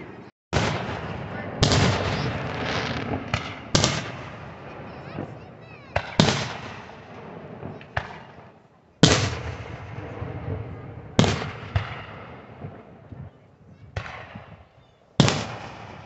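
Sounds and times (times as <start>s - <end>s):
firework booms with echo: 0.5s - 13.3s, 13.9s - 16.0s.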